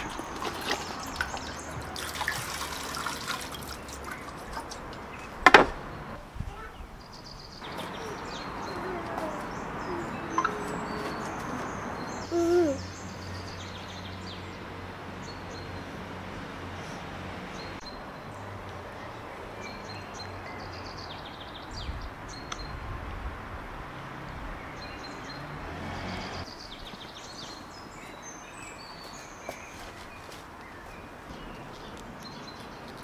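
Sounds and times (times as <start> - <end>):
small birds chirping: 3.5 - 23.0, 24.6 - 33.0.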